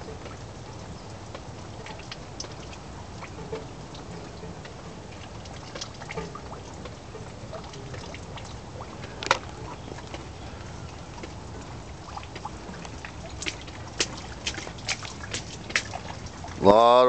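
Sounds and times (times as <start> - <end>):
water trickling and dripping: 0.0 - 17.0.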